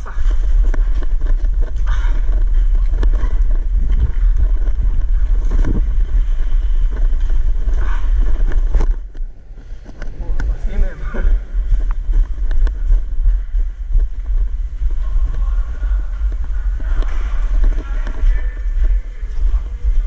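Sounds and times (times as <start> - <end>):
gear scraping and knocking: 0.0 - 20.0
microphone handling noise: 0.0 - 20.0
wind rumble: 0.0 - 20.0.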